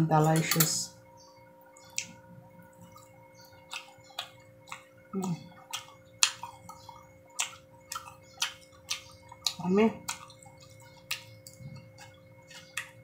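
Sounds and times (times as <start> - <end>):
chewing with wet mouth smacks: 1.7 - 13.0.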